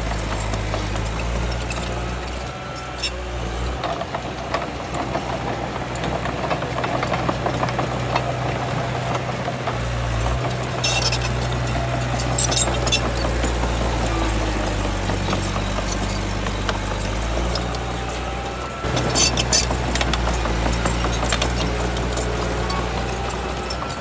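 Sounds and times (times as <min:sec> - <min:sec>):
diesel engine running: 0:00.0 - 0:24.0
rattling and clanking: 0:00.0 - 0:24.0.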